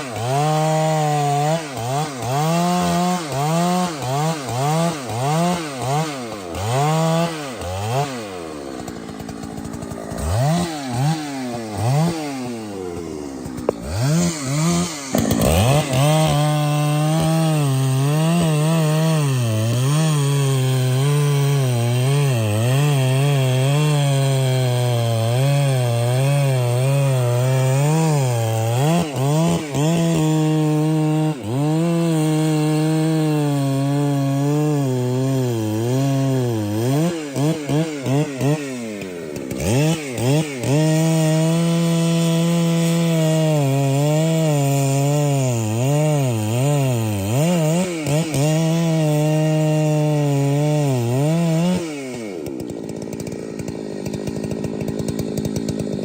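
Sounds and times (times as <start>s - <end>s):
chainsaw sawing through tree: 0.0s - 56.0s.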